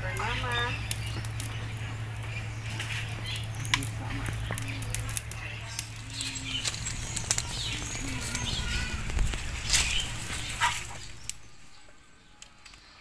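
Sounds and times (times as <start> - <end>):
birds calling: 0.0 - 13.0
wood fire crackling and popping: 0.0 - 13.0.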